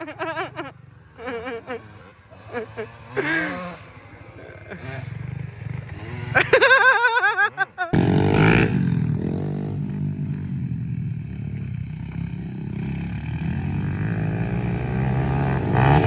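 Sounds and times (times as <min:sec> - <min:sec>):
pit bike engine revving: 0:00.0 - 0:16.0.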